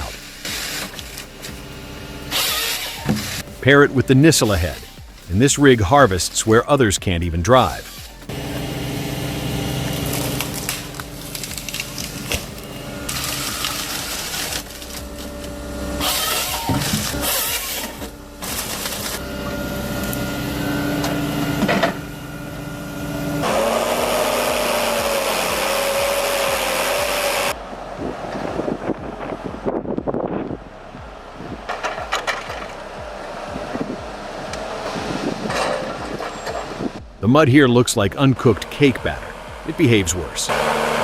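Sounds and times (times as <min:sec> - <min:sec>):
harvester engine hum: 0:00.0 - 0:41.0.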